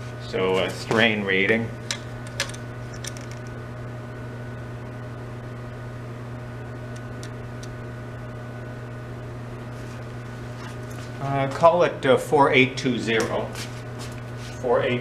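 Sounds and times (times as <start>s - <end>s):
lab equipment electrical hum: 0.0s - 15.0s.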